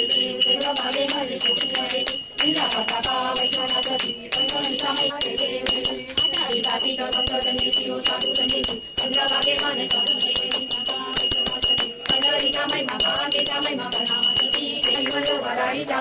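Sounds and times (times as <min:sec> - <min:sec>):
hand bell ringing: 0:00.0 - 0:15.6
people singing a hymn: 0:00.0 - 0:16.0.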